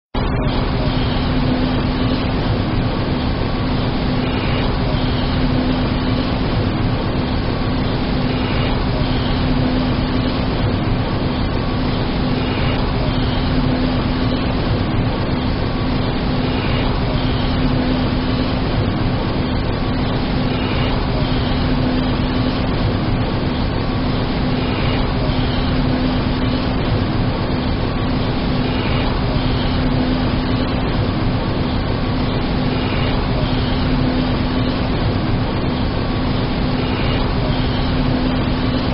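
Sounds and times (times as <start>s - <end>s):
constant low hum: 0.2s - 38.9s
electric arc furnace roaring: 0.2s - 38.9s.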